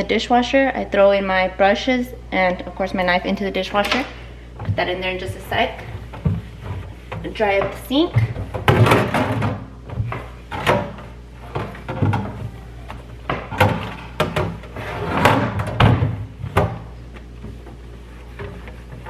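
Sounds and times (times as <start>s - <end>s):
kitchen items knocking and clattering: 3.7s - 19.0s.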